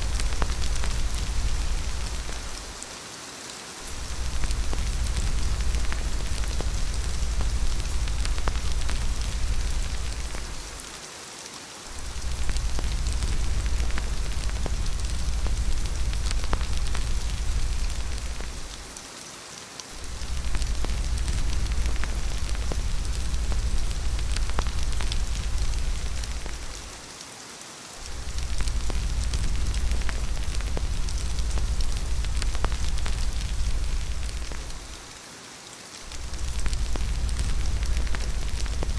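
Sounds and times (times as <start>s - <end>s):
low wind rumble: 0.0s - 2.9s, 3.8s - 11.0s, 11.9s - 19.0s, 19.9s - 27.1s, 28.0s - 35.1s, 36.0s - 38.9s
steady rain hiss: 0.0s - 38.9s.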